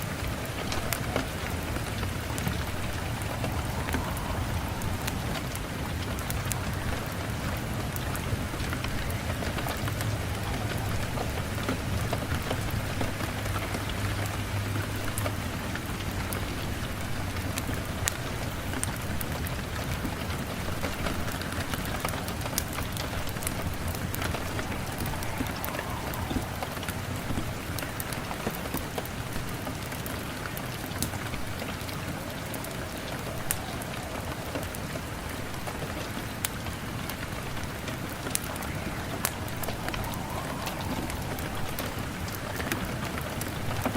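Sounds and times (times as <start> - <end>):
rain falling: 0.0 - 43.9
wood fire crackling: 0.0 - 43.9.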